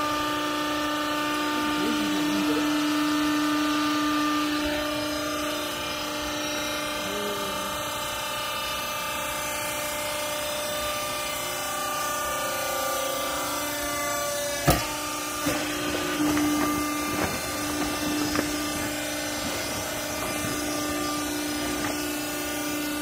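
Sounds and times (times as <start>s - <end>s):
hydraulic pump motor humming: 0.0s - 23.0s.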